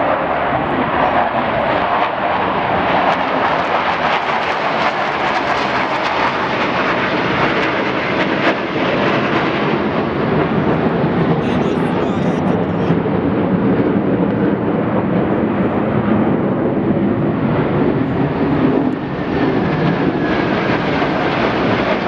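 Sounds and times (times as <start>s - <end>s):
aircraft engine noise overhead: 0.0s - 22.0s.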